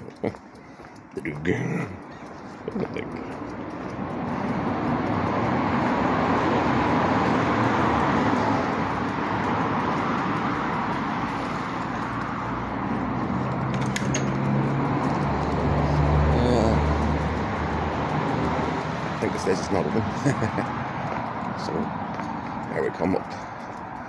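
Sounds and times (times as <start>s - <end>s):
low steady engine hum: 0.0s - 24.0s
sharp clicks: 0.0s - 24.0s.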